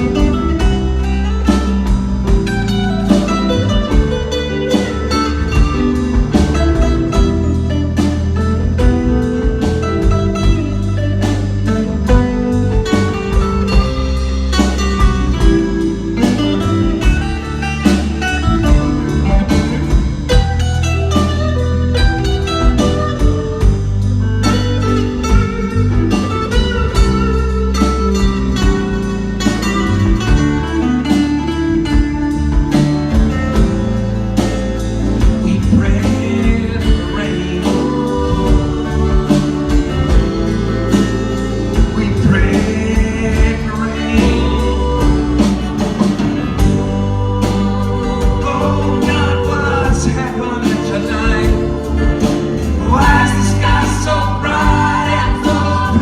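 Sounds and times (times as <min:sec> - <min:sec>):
bass guitar: 0:00.0 - 0:56.0
electric guitar lead: 0:00.0 - 0:56.0
steady drum beat: 0:00.0 - 0:56.0.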